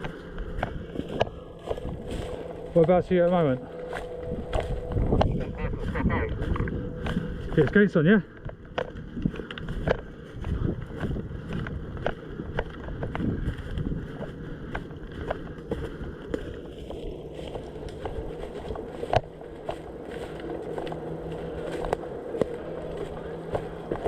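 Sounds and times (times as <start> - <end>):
footsteps walking: 0.0 - 24.0
rustling and scuffing: 0.0 - 24.0.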